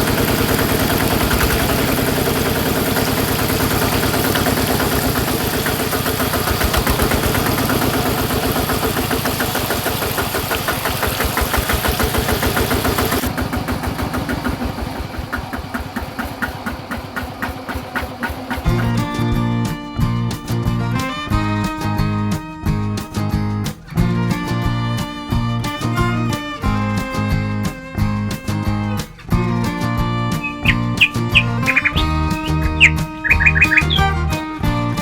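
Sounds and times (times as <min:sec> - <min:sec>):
toy diesel engine running: 0:00.0 - 0:22.0, 0:23.7 - 0:35.0.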